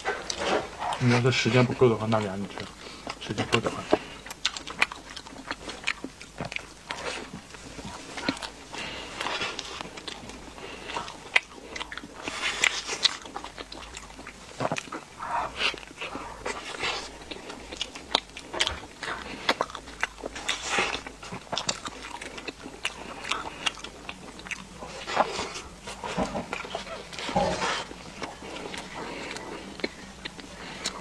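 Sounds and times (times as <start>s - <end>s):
crunching and chewing: 0.0s - 31.0s
person eating pastries: 0.0s - 31.0s.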